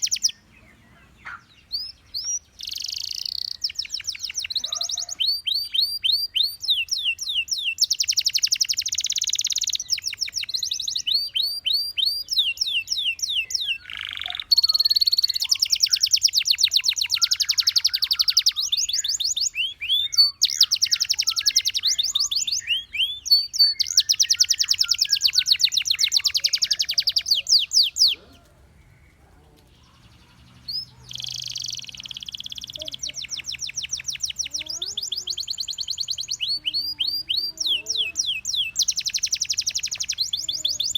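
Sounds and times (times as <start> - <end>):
canary chirping and trilling: 0.0 - 40.9.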